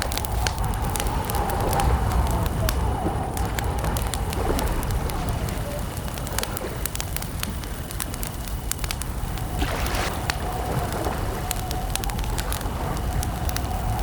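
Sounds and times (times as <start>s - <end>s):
campfire crackling and popping: 0.0s - 14.0s
crickets chirping: 0.0s - 14.0s
lake water lapping: 0.0s - 14.0s
low rumble of burning wood: 0.0s - 14.0s.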